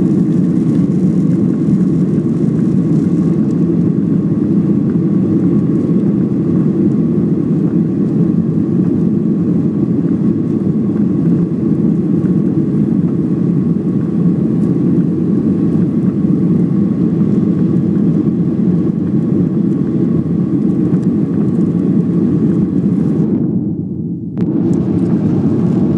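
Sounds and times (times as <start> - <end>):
jet engines and rushing air roar: 0.0 - 25.9.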